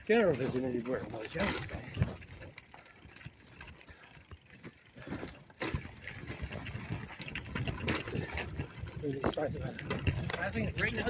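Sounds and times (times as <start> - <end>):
bike knocks and rattles: 0.0 - 11.0.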